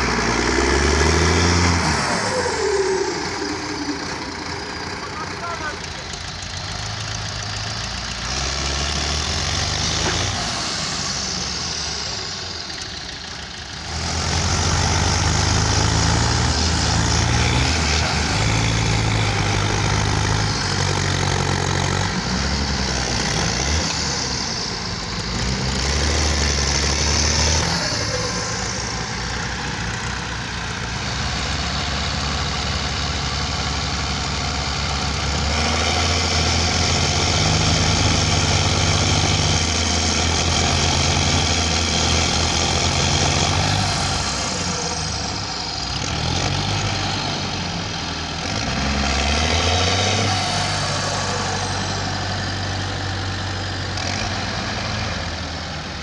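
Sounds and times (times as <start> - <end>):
diesel tractor engines under load: 0.0 - 56.0.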